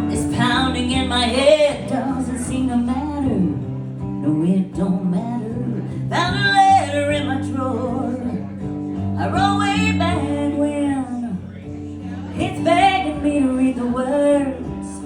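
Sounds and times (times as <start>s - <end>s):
guitar accompaniment: 0.0s - 15.0s.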